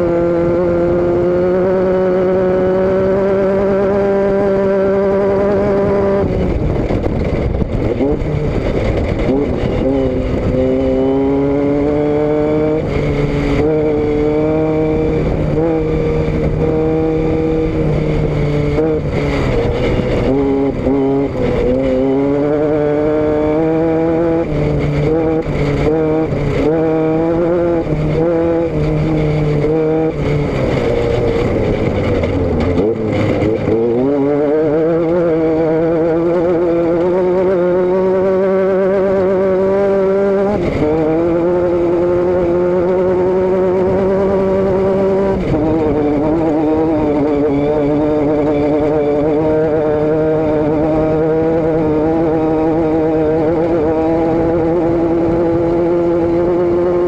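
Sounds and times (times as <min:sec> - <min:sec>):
vehicle engine and exhaust: 0:00.0 - 0:57.0.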